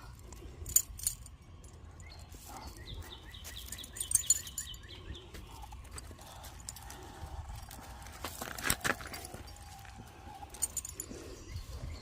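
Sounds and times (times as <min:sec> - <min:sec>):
bird chirping: 0:00.0 - 0:07.9, 0:09.4 - 0:12.0.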